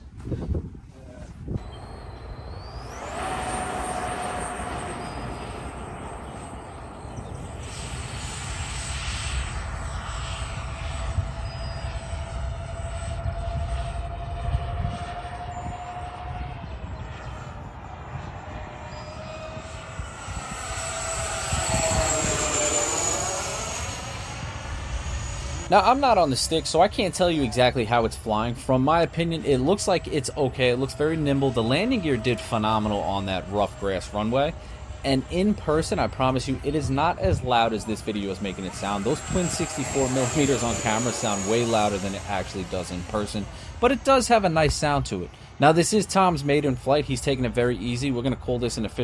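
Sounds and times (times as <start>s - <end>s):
electric ducted fans whining: 1.4s - 49.0s.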